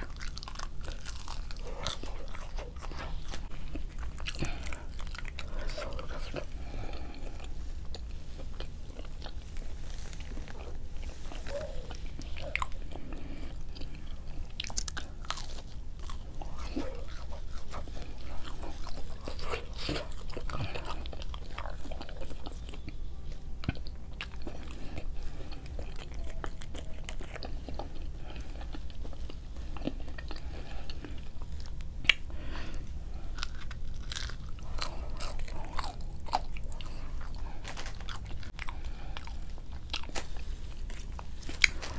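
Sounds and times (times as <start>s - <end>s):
chewing and crunching: 0.0s - 41.9s.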